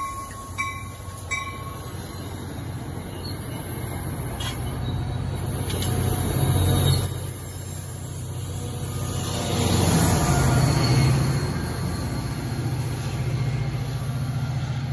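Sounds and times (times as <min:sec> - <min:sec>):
diesel locomotive: 0:00.0 - 0:14.9
train wheels rumbling on rails: 0:00.0 - 0:14.9.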